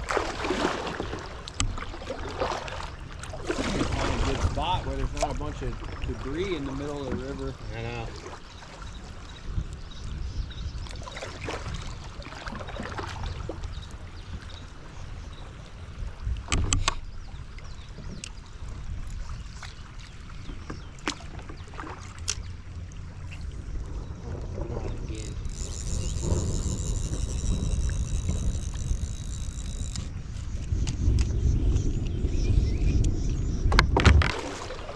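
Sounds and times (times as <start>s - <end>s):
paddle splashing water: 0.0s - 10.2s, 10.8s - 30.8s, 33.7s - 34.9s
wind rumble on microphone: 0.0s - 34.9s.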